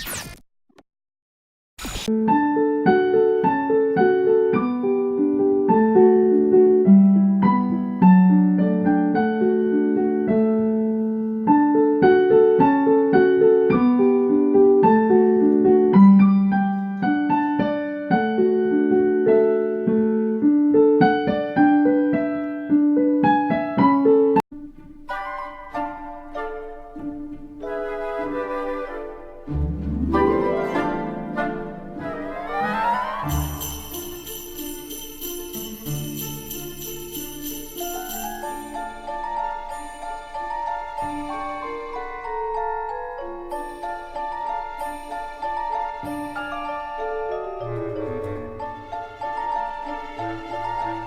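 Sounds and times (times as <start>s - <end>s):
piano melody over chords: 2.1s - 51.0s.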